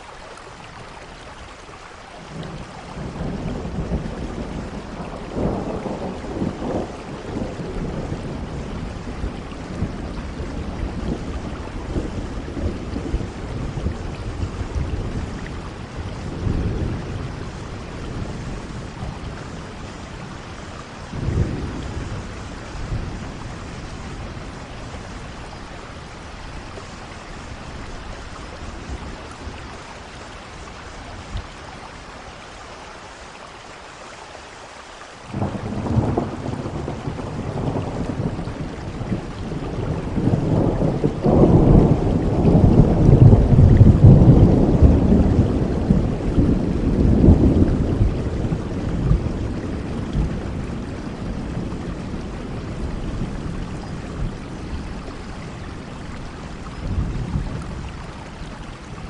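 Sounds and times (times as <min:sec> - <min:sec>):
heavy rain: 0:00.0 - 0:59.0
thunder rumbling: 0:02.2 - 0:31.4, 0:35.3 - 0:59.0.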